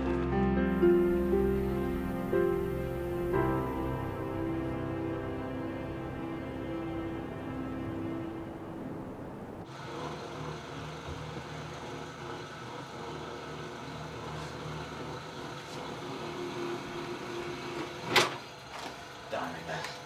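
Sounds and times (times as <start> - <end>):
dough rolling machine humming: 0.0 - 19.5.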